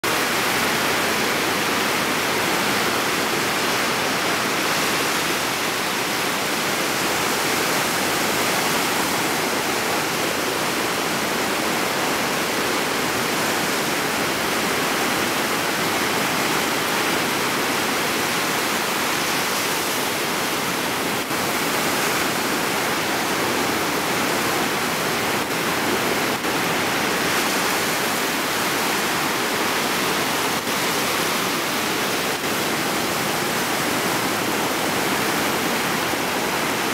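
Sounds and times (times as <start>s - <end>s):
surf washing up a beach: 0.0s - 36.9s.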